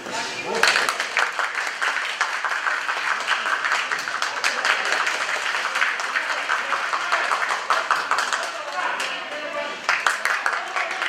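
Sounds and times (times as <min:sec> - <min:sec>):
crowd clapping: 0:00.5 - 0:11.0.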